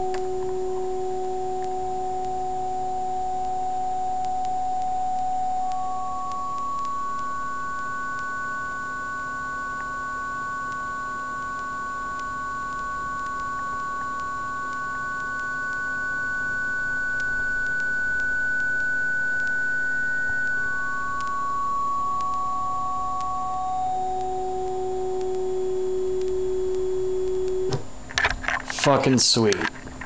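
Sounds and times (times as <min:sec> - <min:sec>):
synthesizer held tones: 0:00.0 - 0:27.8.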